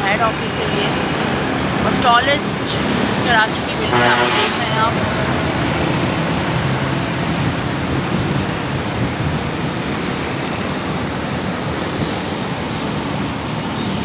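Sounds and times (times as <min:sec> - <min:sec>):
road traffic rush: 0:00.0 - 0:14.0.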